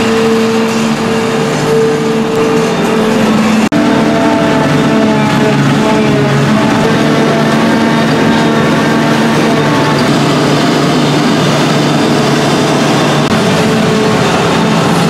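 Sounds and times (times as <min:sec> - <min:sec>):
heavy machine drone: 0:00.0 - 0:15.0.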